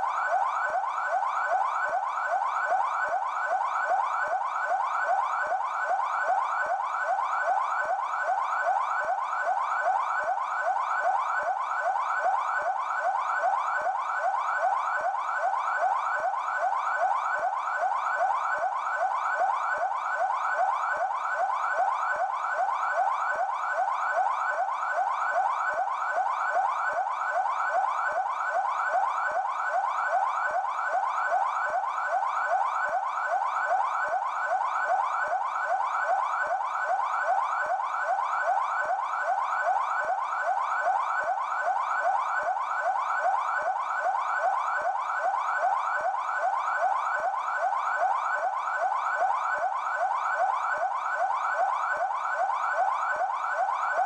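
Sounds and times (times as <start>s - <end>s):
police siren yelp: 0.0s - 54.0s.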